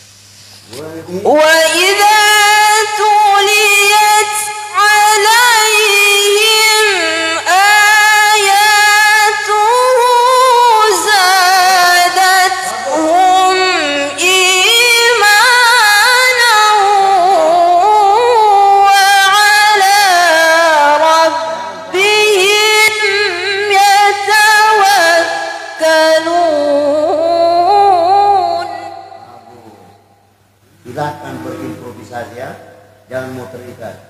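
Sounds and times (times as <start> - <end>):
woman reciting melodically: 1.2 - 29.5.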